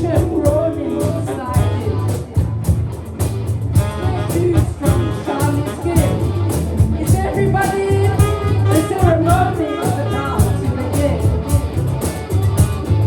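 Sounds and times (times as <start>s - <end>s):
bass line: 0.0s - 13.0s
bending lead melody: 0.0s - 13.0s.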